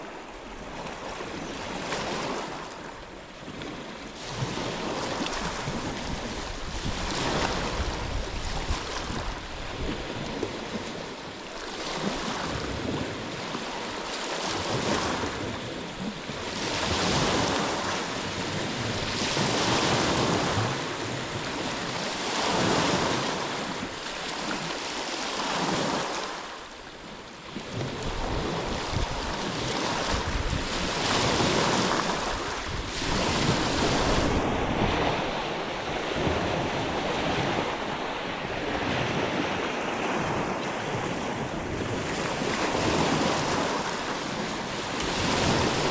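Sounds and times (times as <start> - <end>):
wind rumbling on microphone: 0.0 - 24.7, 27.5 - 45.9
ocean waves breaking on shore: 0.0 - 45.9.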